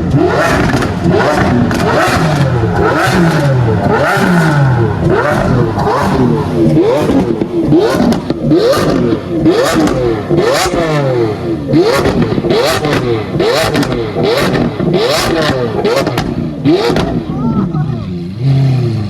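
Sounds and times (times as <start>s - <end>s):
sports car engines revving: 0.0s - 19.0s.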